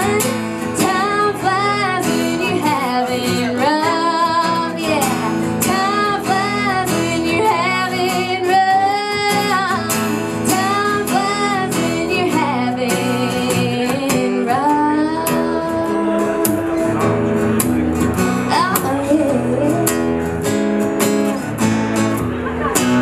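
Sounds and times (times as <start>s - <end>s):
woman singing country song: 0.0s - 21.2s
strummed acoustic guitar: 0.0s - 23.0s.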